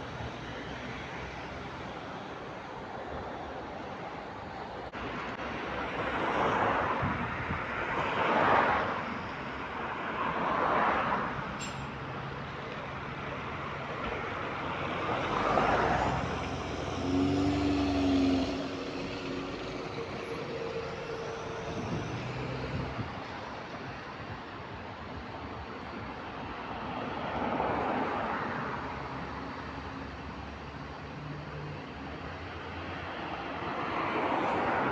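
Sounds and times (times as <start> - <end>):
bus engine and road noise: 0.0 - 34.9.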